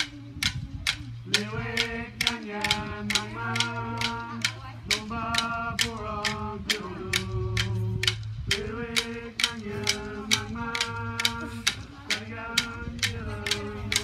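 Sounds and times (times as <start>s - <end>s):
clapsticks striking: 0.0s - 14.0s
low steady drone: 0.0s - 14.0s
person chanting: 0.9s - 14.0s.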